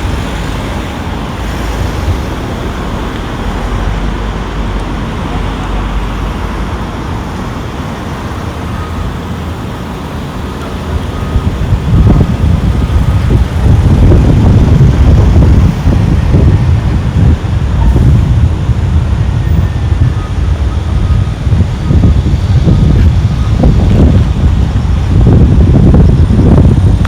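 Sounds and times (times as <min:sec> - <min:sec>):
street traffic noise: 0:00.0 - 0:27.0.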